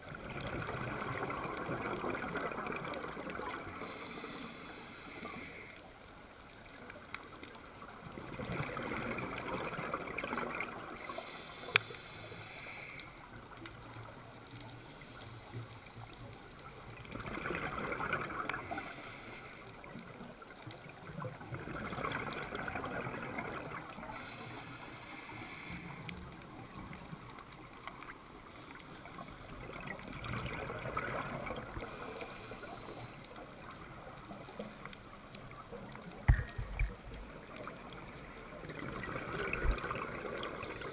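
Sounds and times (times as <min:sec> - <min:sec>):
underwater bubbles rushing: 0:00.0 - 0:04.3, 0:06.1 - 0:11.7, 0:13.3 - 0:40.9.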